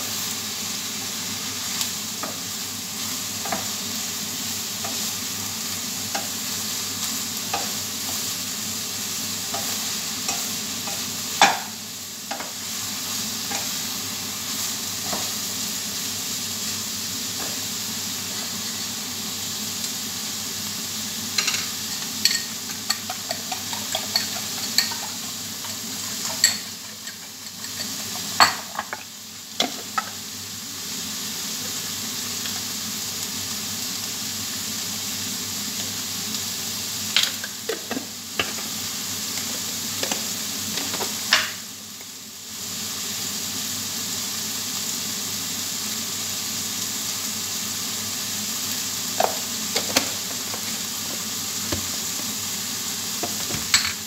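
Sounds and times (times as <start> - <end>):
vegetable sizzling in a pan: 0.0 - 54.0.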